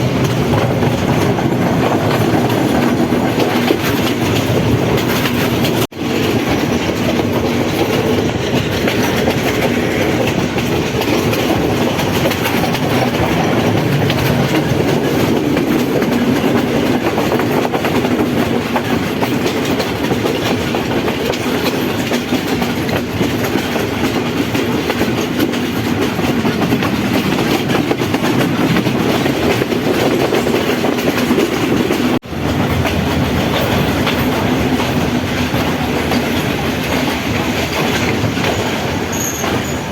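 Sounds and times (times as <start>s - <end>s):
train rumbling on rails: 0.0s - 39.9s
wheels clacking over rail joints: 0.0s - 39.9s.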